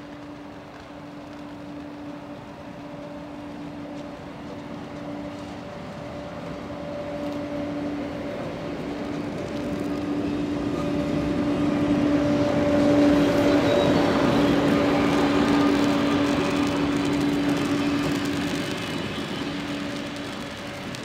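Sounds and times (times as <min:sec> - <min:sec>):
electric locomotive hum passing: 0:00.0 - 0:21.0.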